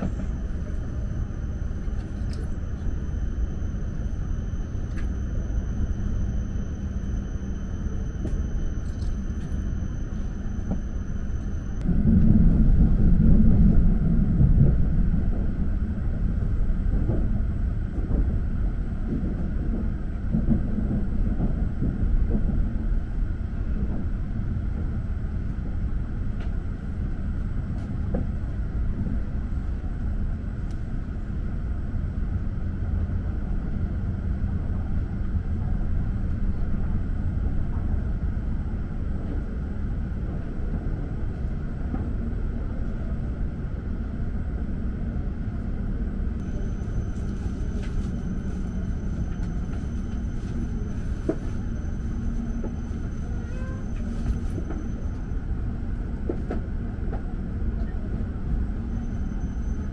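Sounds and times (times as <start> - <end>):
high steady whine: 0.0 - 57.6
train rumbling on rails: 0.0 - 59.9.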